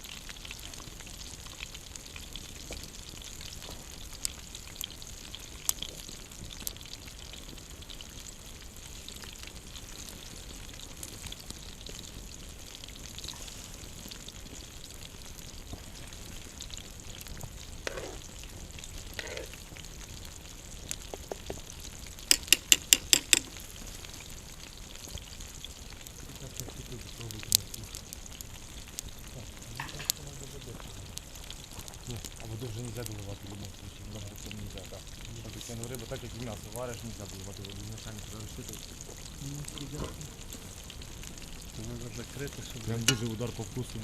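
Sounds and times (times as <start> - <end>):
campfire hissing and popping: 0.0 - 44.0.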